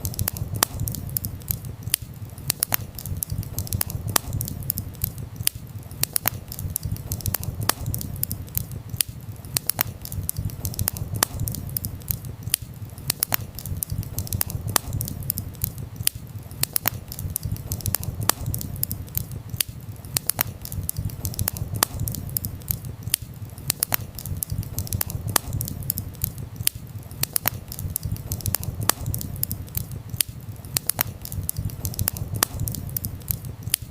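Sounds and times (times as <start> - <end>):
campfire crackling and popping: 0.0 - 33.9
steady low rumble: 0.0 - 33.9.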